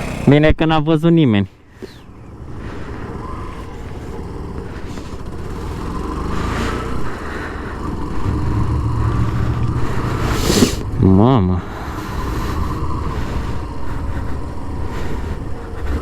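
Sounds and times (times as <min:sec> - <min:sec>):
motorcycle engine rumble: 0:00.0 - 0:00.6, 0:01.6 - 0:16.0.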